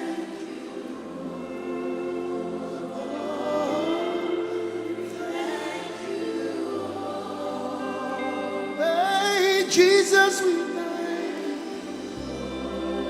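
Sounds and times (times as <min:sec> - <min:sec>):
choir and congregation singing: 0:00.0 - 0:13.0
keyboard and bass backing: 0:01.0 - 0:13.0.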